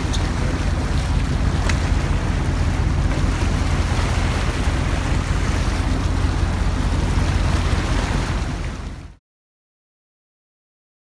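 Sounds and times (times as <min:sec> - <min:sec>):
boat on water: 0:00.0 - 0:09.2
waves: 0:00.0 - 0:09.2.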